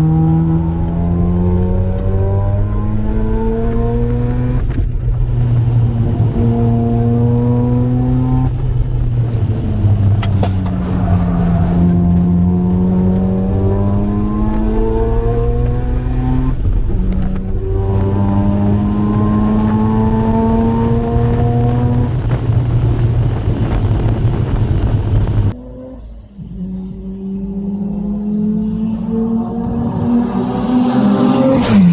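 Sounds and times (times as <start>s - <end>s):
rotary engine accelerating hard: 0.0s - 25.6s, 28.2s - 31.9s.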